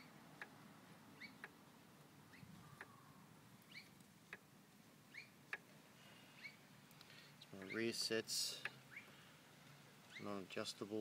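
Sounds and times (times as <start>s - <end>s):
small bird chirping faintly: 0.0s - 10.4s.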